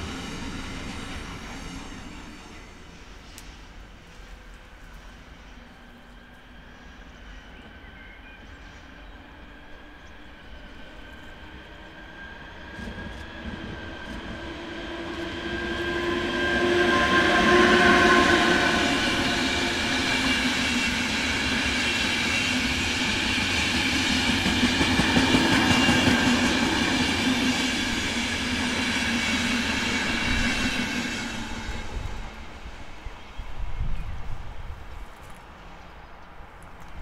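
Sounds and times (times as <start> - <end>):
train whining passage: 0.0 - 37.0.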